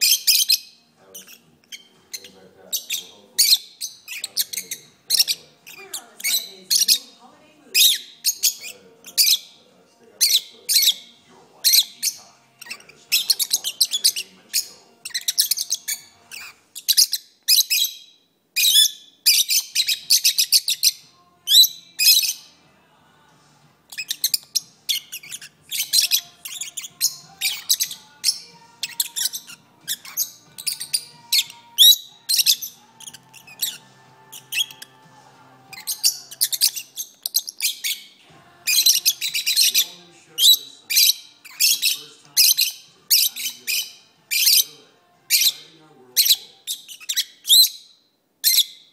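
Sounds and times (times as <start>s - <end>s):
lovebirds chirping: 0.0s - 48.9s.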